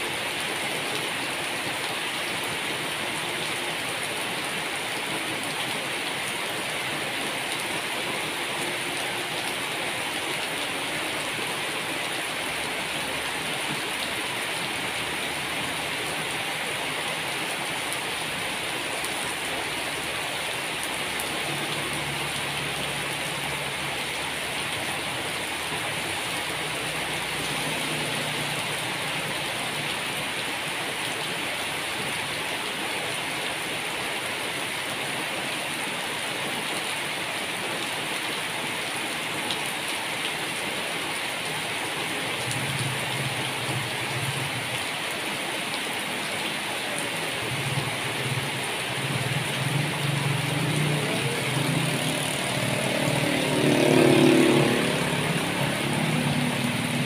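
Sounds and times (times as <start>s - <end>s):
rain on a wet road: 0.0s - 57.0s.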